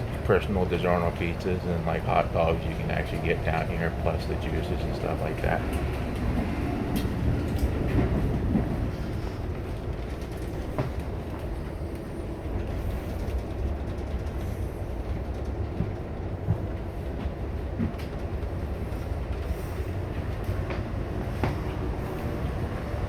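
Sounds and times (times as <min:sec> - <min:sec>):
train rumble from inside: 0:00.0 - 0:23.0.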